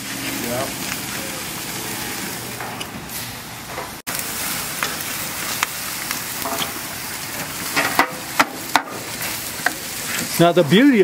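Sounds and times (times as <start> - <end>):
fat crackling and popping: 0.0 - 11.0
steaks sizzling on grill: 0.0 - 11.0.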